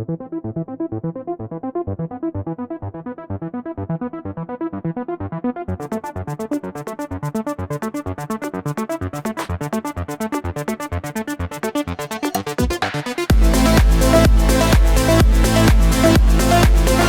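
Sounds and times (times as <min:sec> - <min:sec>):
electronic music with synthesizer pulse: 0:00.0 - 0:17.0.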